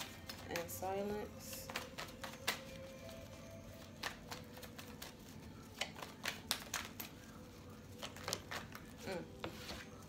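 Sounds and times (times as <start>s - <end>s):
cards being shuffled: 1.6s - 10.0s.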